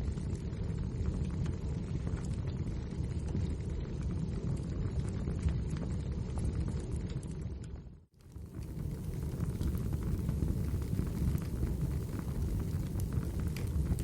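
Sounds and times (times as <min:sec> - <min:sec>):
wood fire crackling: 0:00.7 - 0:14.0.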